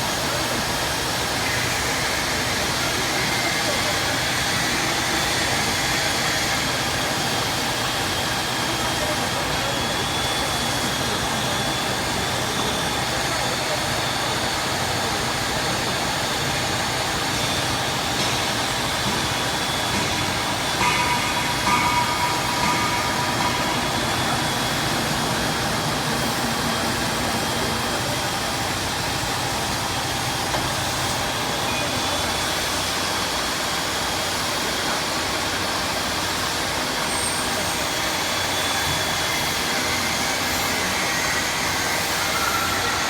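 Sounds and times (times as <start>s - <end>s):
drilling machine running: 0.1s - 43.0s.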